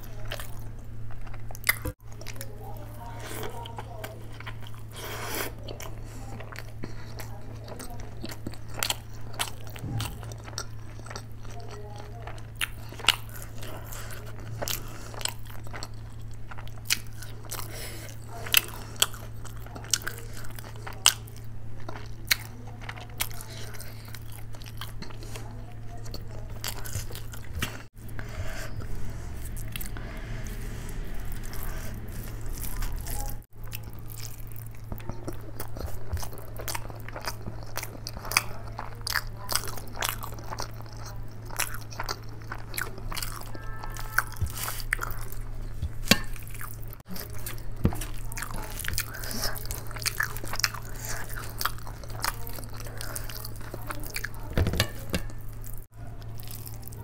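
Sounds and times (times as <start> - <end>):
chewing food: 0.0 - 57.0
steady low hum: 0.0 - 57.0.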